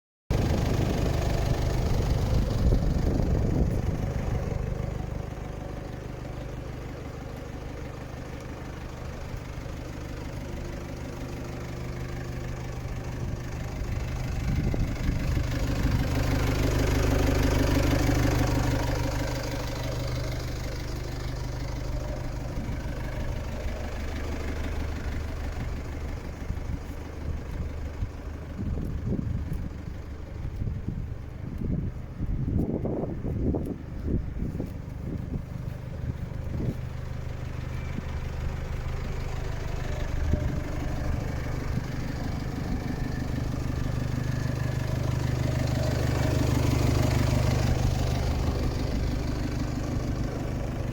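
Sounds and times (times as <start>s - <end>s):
diesel truck engine idling: 0.3s - 50.9s.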